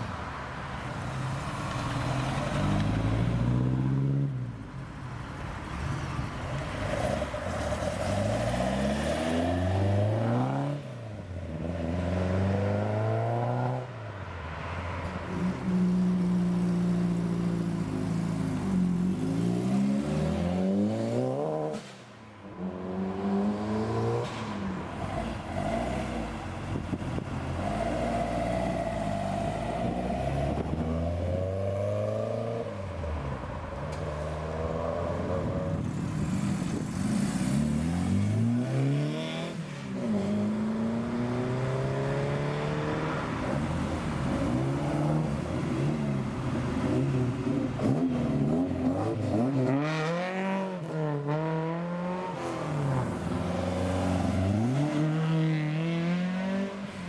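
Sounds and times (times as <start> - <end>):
car engines revving and accelerating: 0.0 - 57.0.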